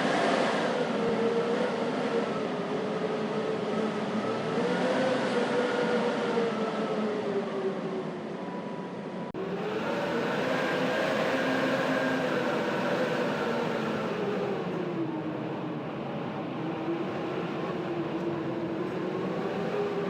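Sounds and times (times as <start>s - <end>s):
blizzard wind howling: 0.0s - 20.0s.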